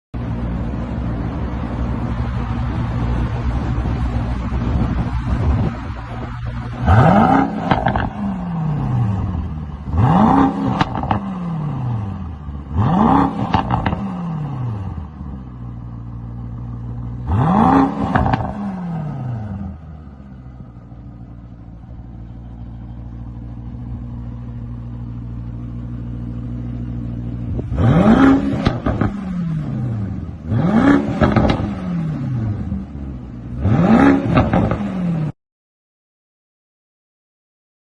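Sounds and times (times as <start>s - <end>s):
car engine idling and revving: 0.2s - 35.4s.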